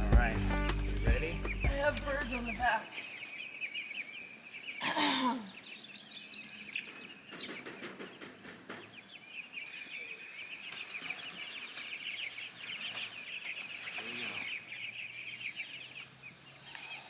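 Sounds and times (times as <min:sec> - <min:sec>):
chicks cheeping: 0:00.0 - 0:17.0.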